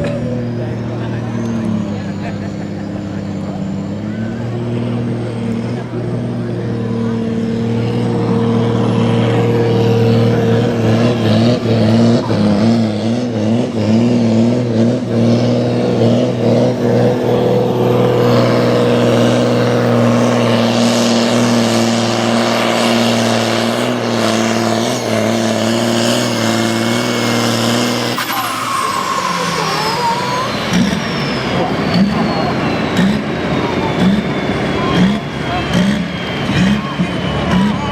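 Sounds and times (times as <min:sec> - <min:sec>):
tractor diesel engine running hard: 0:00.0 - 0:37.9.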